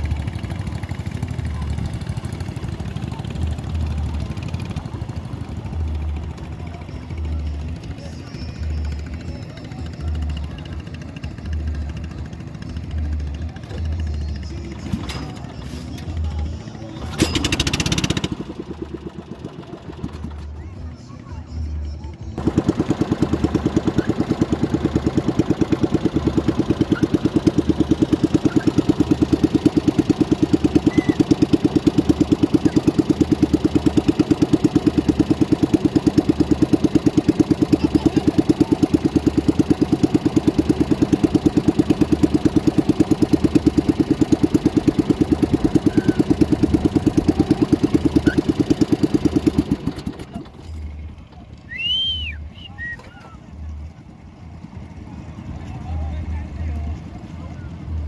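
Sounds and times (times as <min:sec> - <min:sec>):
small boat motor puttering: 0:00.0 - 0:20.7, 0:22.4 - 0:53.8.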